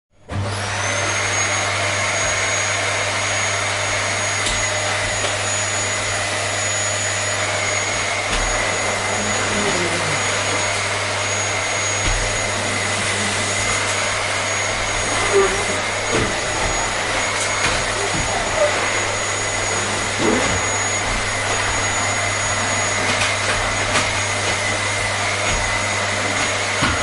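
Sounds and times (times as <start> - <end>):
vacuum cleaner running: 0.2 - 27.0.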